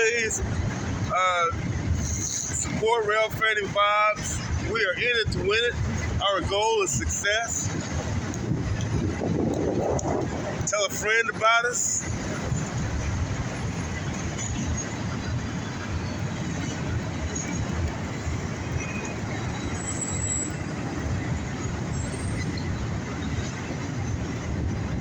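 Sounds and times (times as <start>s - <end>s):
steel wheels rumbling on rails: 0.0s - 25.0s.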